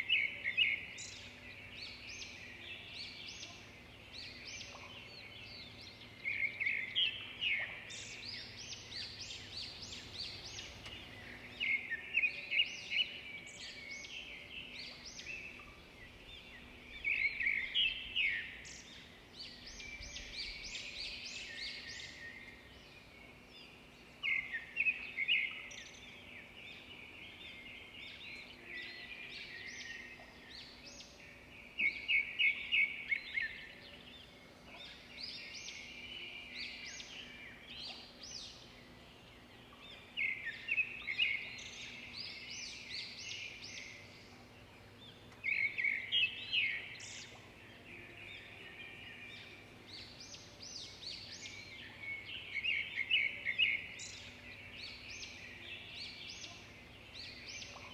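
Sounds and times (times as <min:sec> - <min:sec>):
birds chirping and singing: 0:00.0 - 0:57.9.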